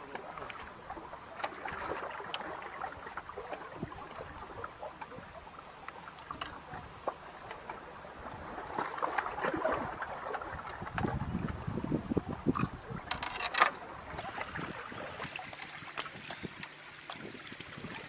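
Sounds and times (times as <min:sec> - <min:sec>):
water lapping and splashing: 0:00.0 - 0:18.0.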